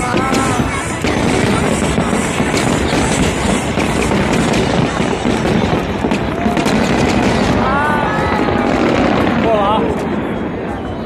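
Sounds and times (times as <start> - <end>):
firework shells bursting: 0.0 - 9.5
continuous crackle: 0.0 - 10.2.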